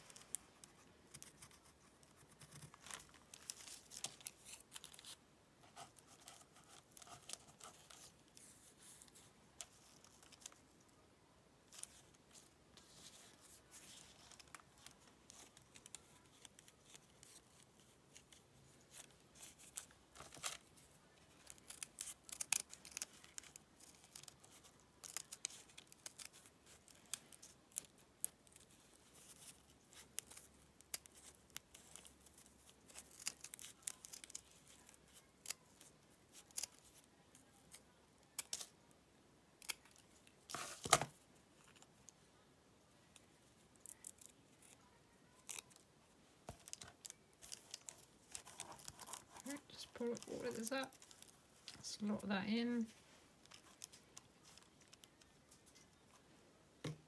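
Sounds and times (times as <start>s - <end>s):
fabric and paper rustling: 0.0s - 10.9s, 11.7s - 38.8s, 39.6s - 42.3s, 43.0s - 56.4s.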